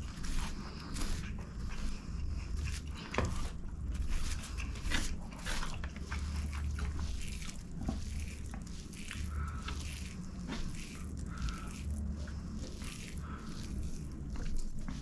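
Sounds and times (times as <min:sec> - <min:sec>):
hand squishing rice: 0:00.0 - 0:15.0
mouth chewing: 0:00.0 - 0:15.0.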